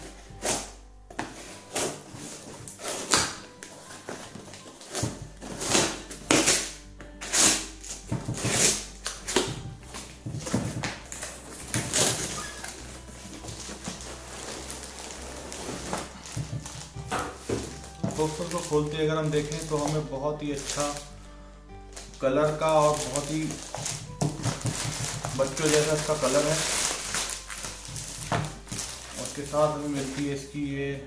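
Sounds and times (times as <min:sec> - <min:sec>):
cardboard ripping: 0:00.0 - 0:21.1, 0:21.9 - 0:30.6
plastic bag rustling: 0:00.0 - 0:21.2, 0:21.9 - 0:30.8.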